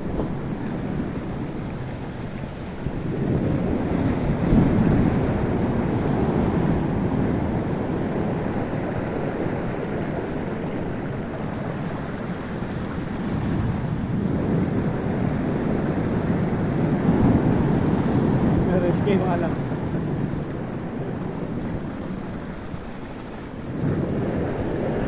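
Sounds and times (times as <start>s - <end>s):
heavy surf roaring: 0.0s - 25.0s
wind buffeting microphone: 0.0s - 25.0s.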